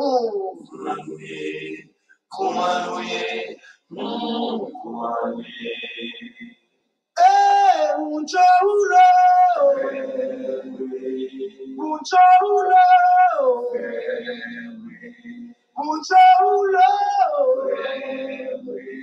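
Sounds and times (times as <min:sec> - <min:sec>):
person singing slow melody: 0:00.0 - 0:01.5, 0:02.4 - 0:06.2, 0:07.2 - 0:19.0.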